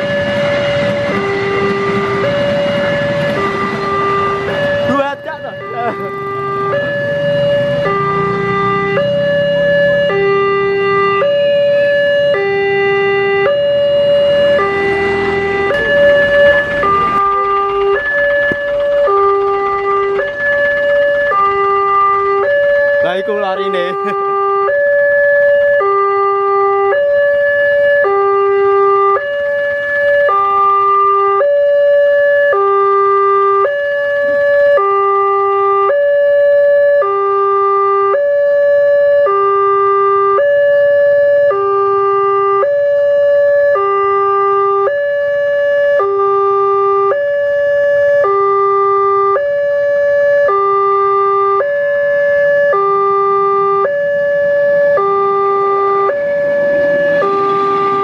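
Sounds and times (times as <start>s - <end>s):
level crossing two-tone alarm: 0.0s - 58.0s.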